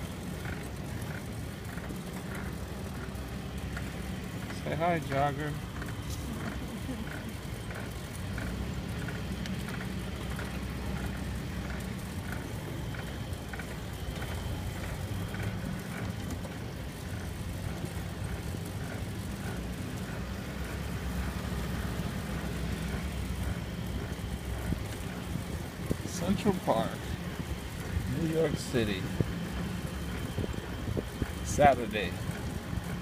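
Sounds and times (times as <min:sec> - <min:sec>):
bicycle tyre and wind rumble: 0:00.0 - 0:33.0
faint regular ticking: 0:00.0 - 0:33.0.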